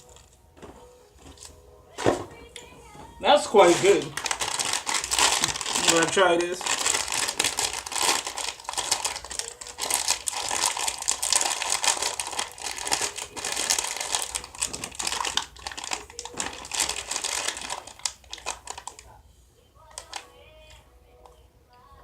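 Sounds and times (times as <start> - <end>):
plastic wrapper crinkling: 1.2 - 19.2, 19.8 - 20.3.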